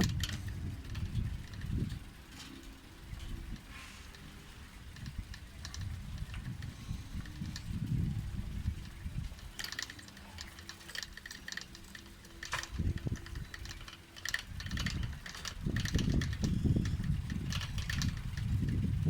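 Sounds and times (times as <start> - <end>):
bicycle ticking and rattling: 0.0 - 19.0
wind buffeting microphone: 0.0 - 19.0.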